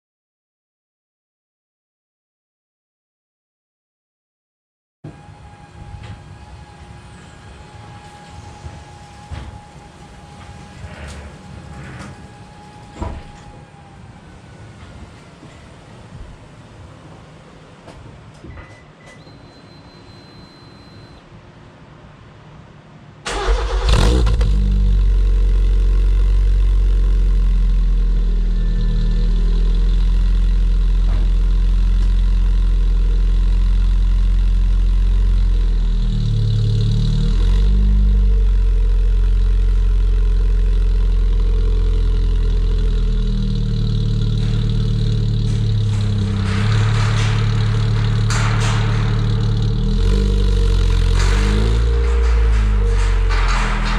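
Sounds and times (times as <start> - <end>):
car engine starting and idling: 5.1 - 18.4, 23.1 - 53.9.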